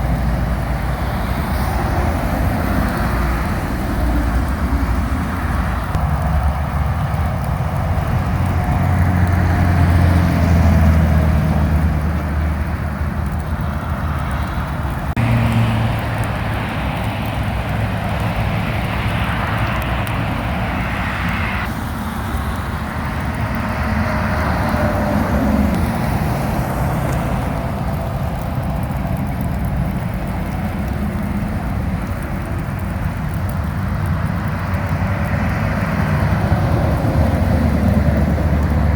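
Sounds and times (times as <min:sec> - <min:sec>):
diesel engine drone: 0:00.0 - 0:38.9
trucks and cars passing: 0:00.0 - 0:38.9
wet tyre noise: 0:00.0 - 0:38.9.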